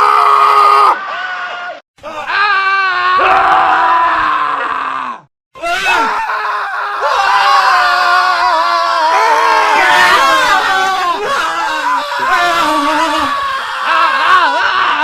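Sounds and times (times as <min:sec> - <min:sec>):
men screaming: 0:00.0 - 0:15.0.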